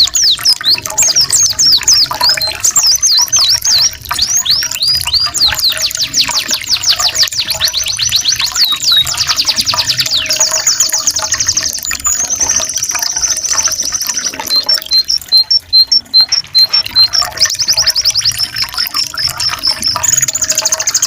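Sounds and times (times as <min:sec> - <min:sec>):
canary singing: 0:00.0 - 0:21.0
faint trickle of water: 0:00.0 - 0:21.0.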